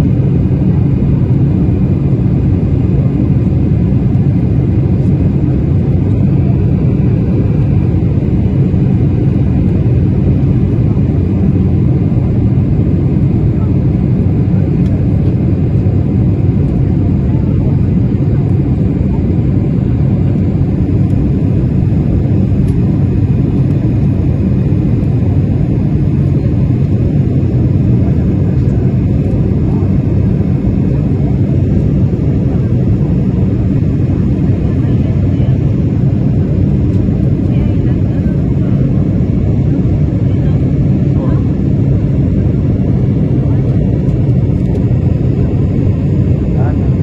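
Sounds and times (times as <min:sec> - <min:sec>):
jet engines rumbling in cabin: 0:00.0 - 0:47.0.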